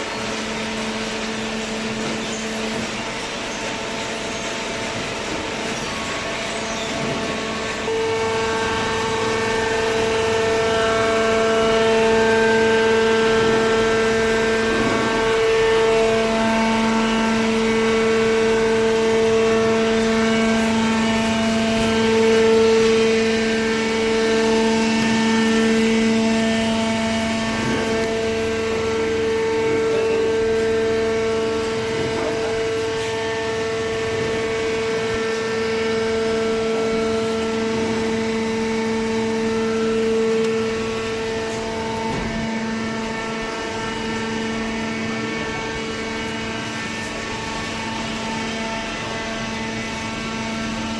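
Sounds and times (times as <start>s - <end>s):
high whine: 0.0s - 50.9s
hydraulic pump hum: 0.0s - 50.9s.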